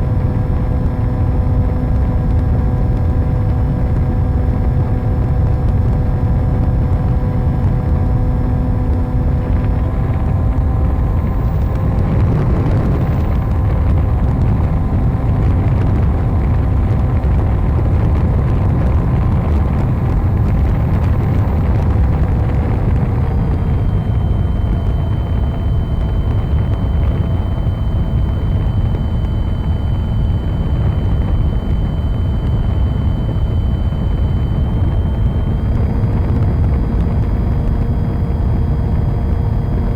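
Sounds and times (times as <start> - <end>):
model plane motor humming: 0.0 - 39.9
wind rushing over airframe: 0.0 - 39.9.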